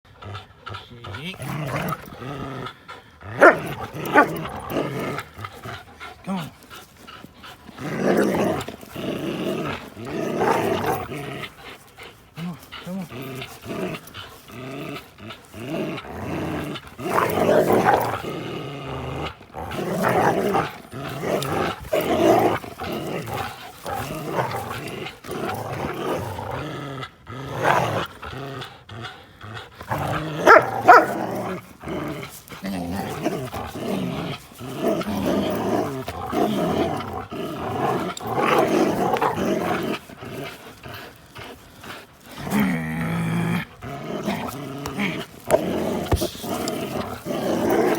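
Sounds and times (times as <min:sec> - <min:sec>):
dogs growling while play-fighting: 0:00.1 - 0:47.9.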